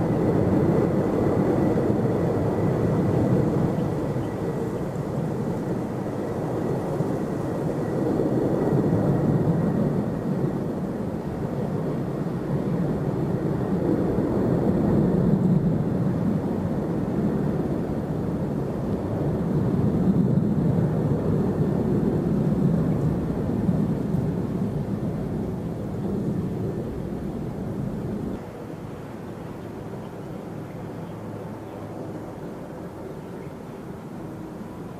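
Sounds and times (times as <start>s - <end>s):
faint high whine: 0.0s - 34.9s
jet engines rumbling: 0.0s - 34.9s.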